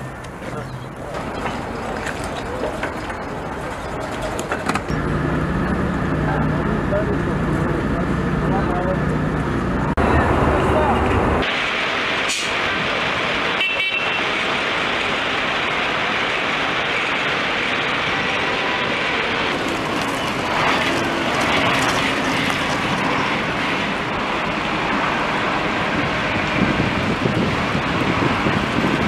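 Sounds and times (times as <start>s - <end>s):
armoured vehicles driving: 0.0s - 29.0s.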